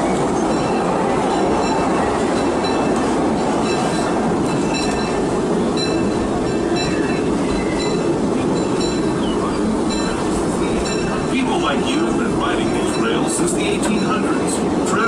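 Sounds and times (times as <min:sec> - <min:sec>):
train car rumbling and rattling: 0:00.0 - 0:15.0.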